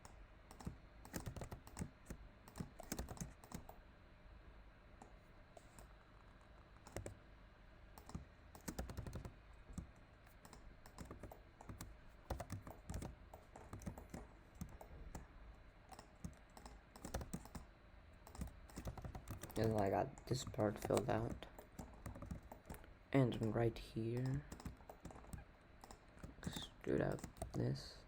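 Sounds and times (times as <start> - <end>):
keys and mouse buttons clicking: 0.0 - 3.8, 5.0 - 7.2, 8.0 - 27.8
low steady hum: 0.0 - 28.0.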